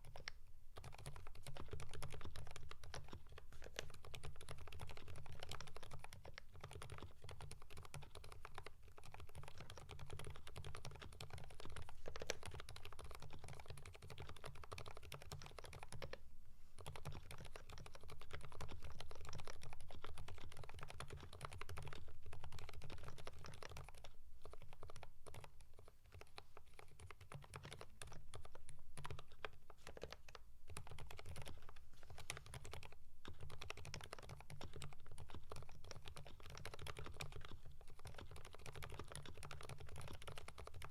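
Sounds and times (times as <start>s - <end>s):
mechanical keyboard typing: 0.0s - 16.2s, 16.8s - 40.9s.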